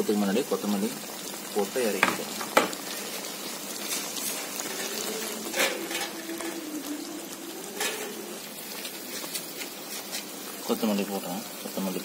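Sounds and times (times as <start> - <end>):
curry bubbling and sizzling in pan: 0.0 - 12.0.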